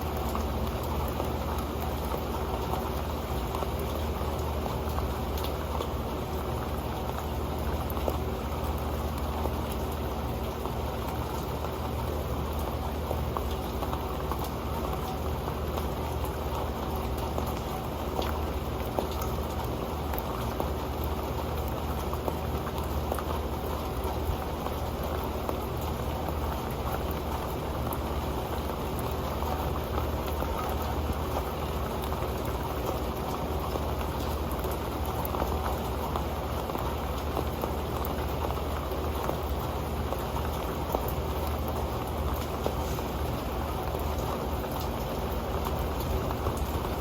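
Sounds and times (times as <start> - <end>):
rain on a metal pan: 0.0 - 47.0.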